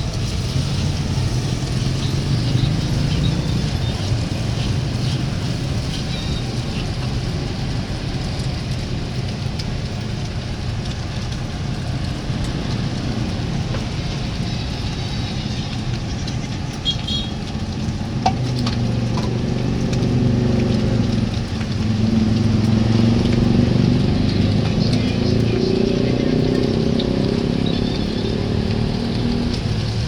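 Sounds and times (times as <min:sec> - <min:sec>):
low engine hum: 0:00.0 - 0:30.0
street traffic: 0:00.0 - 0:30.0.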